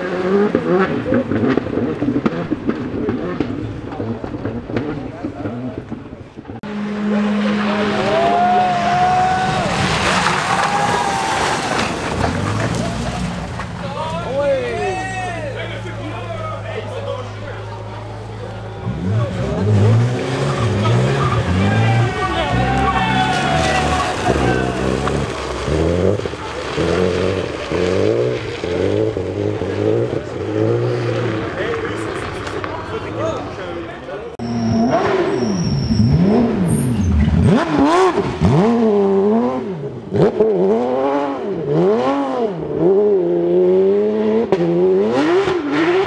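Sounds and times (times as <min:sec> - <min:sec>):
tyre noise on wet road: 0:00.0 - 0:42.9
rally car engine revving: 0:00.0 - 0:46.0.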